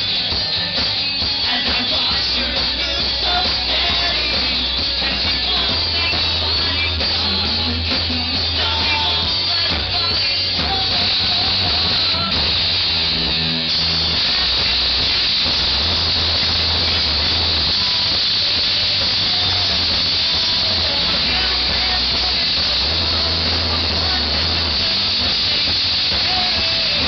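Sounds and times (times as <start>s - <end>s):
live rock band over loudspeakers: 0.0s - 27.0s.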